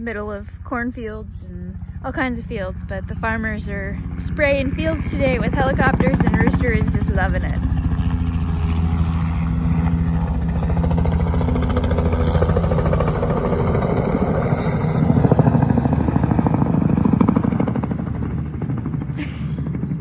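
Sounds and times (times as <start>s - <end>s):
helicopter flying past: 0.0s - 20.0s.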